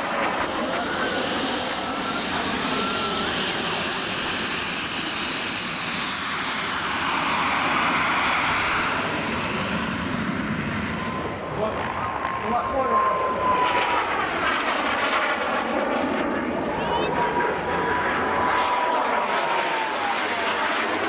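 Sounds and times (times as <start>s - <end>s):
jet engine whine: 0.0s - 21.0s.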